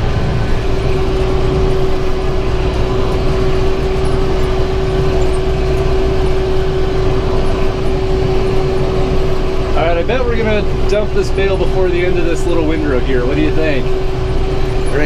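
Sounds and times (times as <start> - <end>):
baler whine: 0.0 - 15.0
tractor engine running under load: 0.0 - 15.0.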